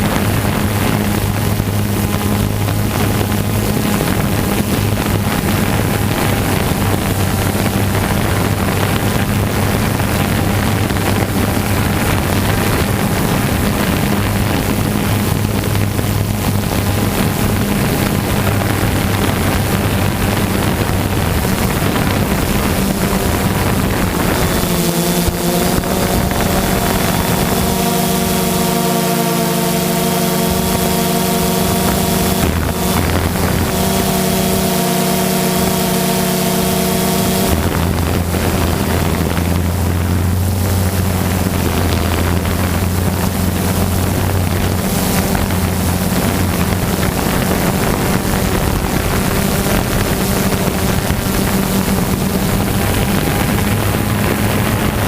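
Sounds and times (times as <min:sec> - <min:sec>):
propeller aircraft engine: 0:00.0 - 0:55.0
wind noise on microphone: 0:00.0 - 0:55.0.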